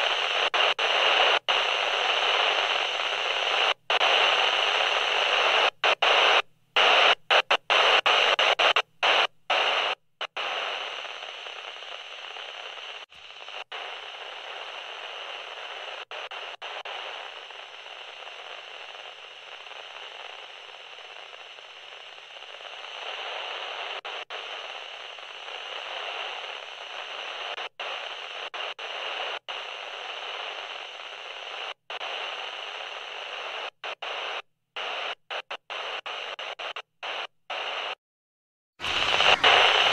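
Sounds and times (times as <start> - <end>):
static hiss: 0.0 - 38.0, 38.8 - 39.9.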